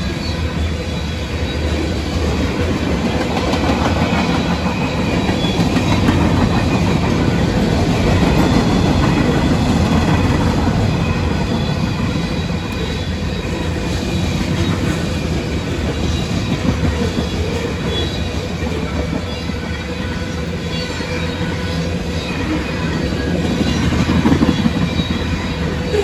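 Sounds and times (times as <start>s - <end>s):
freight cars rumbling on rails: 0.0s - 26.0s.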